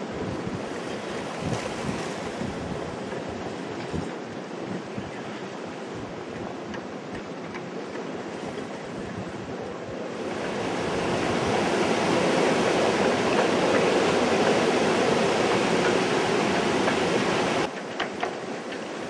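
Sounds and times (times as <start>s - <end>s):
storm wind blowing hard: 0.0s - 17.7s
waves on water: 0.0s - 19.0s.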